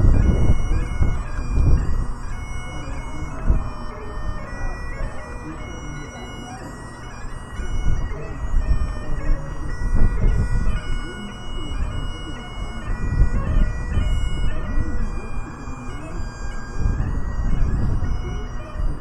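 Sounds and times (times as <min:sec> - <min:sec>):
bagpipes playing a tune: 0:00.0 - 0:19.0.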